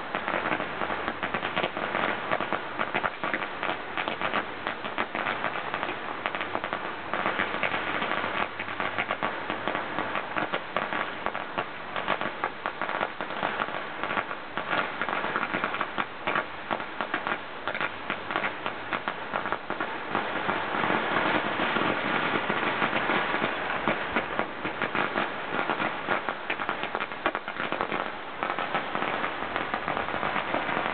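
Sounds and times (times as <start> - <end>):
firecrackers crackling: 0.0 - 30.9.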